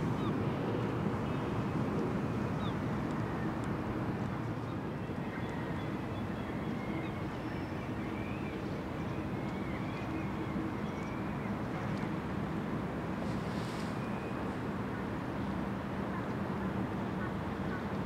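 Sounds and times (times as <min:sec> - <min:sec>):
harbour ambience rumble and hum: 0:00.0 - 0:18.0.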